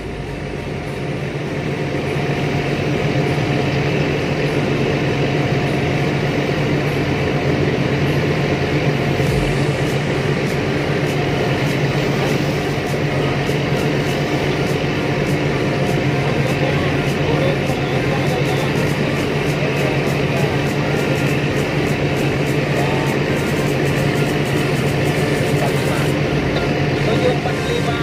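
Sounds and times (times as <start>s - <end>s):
boat diesel engine droning: 0.0s - 28.0s.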